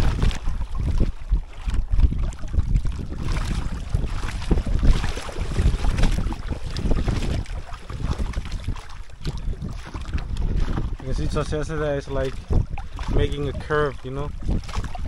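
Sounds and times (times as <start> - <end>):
seawater sloshing and lapping: 0.0 - 15.0
wind buffeting microphone: 0.0 - 15.0.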